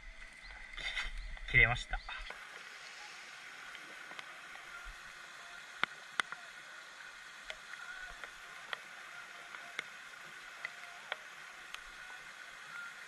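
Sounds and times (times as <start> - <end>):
steady outdoor hiss by water: 0.0 - 13.0.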